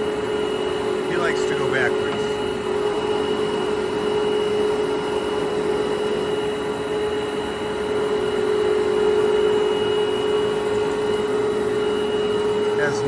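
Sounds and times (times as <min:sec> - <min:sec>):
high machine whine: 0:00.0 - 0:13.0
lathe running: 0:00.0 - 0:13.0.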